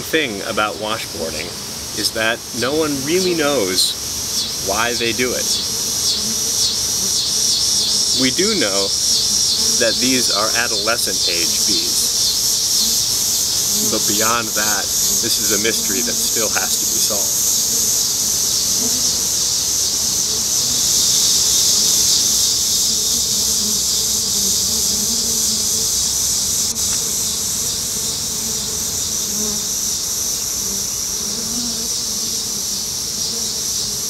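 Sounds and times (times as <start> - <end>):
high-pitched hiss: 0.0 - 34.0
honey bees buzzing: 0.0 - 34.0.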